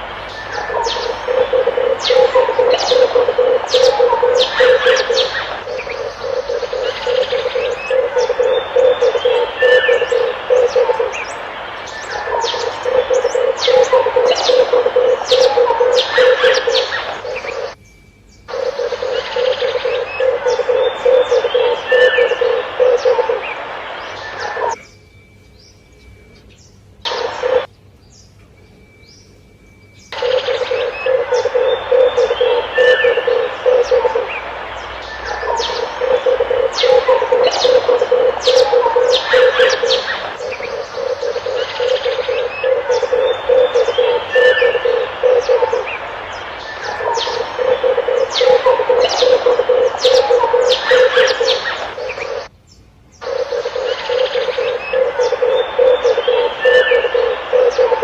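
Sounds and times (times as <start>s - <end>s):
dove cooing: 0.0s - 17.8s, 18.5s - 24.8s, 27.1s - 27.7s, 30.2s - 52.5s, 53.2s - 58.0s
small birds chirping: 0.0s - 58.0s.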